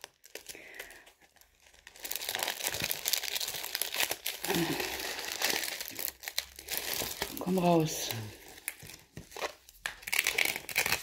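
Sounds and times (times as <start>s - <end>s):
paper packaging crinkling: 0.0s - 11.0s.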